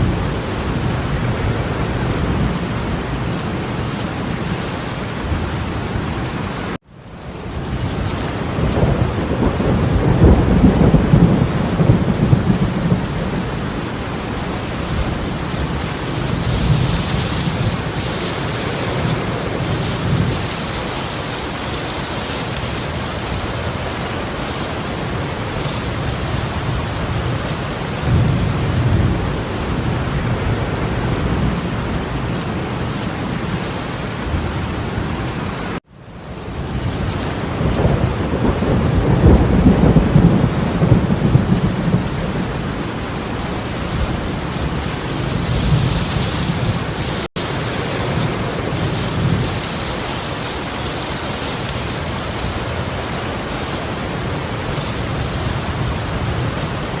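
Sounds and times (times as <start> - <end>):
torrential rain pouring: 0.0 - 57.0.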